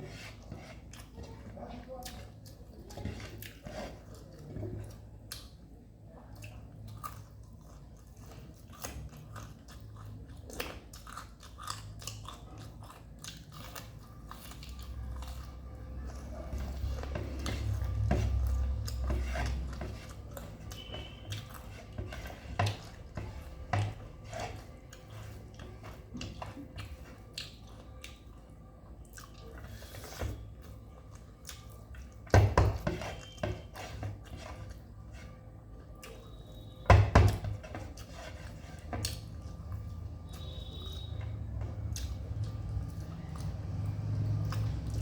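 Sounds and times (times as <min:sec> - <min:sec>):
chewing: 0:00.0 - 0:45.0.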